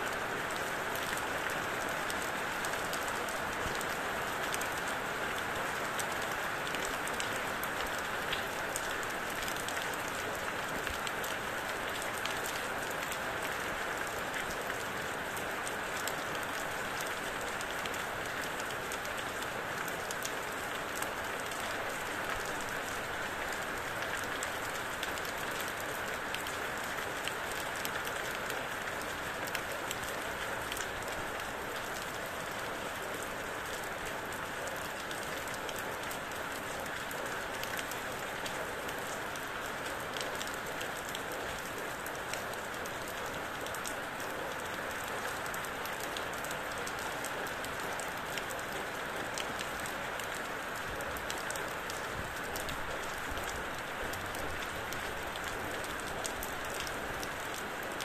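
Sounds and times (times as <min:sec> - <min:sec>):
raindrops pattering on a surface: 0:00.0 - 0:58.0
steady rain: 0:00.0 - 0:58.0.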